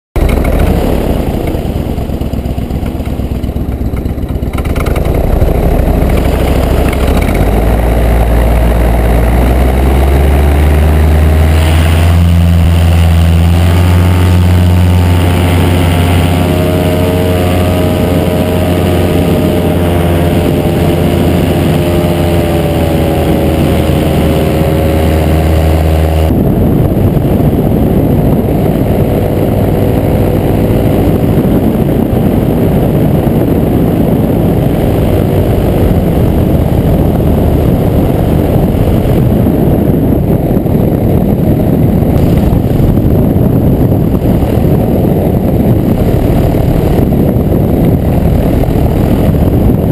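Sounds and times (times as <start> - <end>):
paramotor engine and propeller: 0.2 - 49.9.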